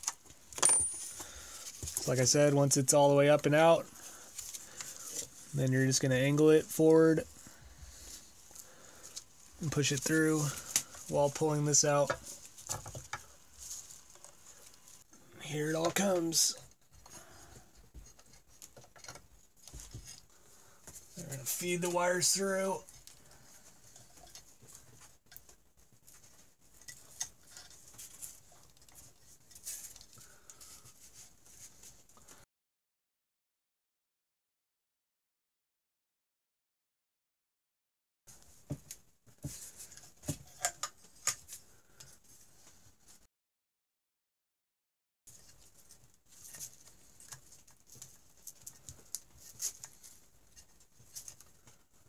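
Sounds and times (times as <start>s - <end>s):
wires rustling and scraping: 0.0s - 32.4s, 38.3s - 43.3s, 45.3s - 52.0s.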